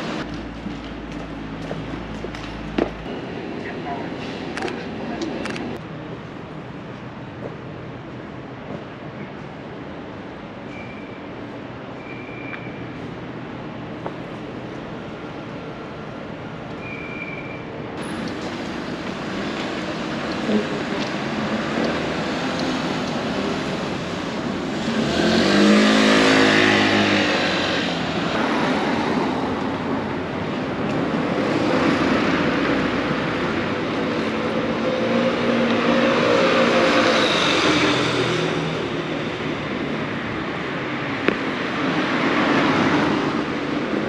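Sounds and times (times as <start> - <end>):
vehicles passing: 0.0 - 10.6, 17.6 - 44.0.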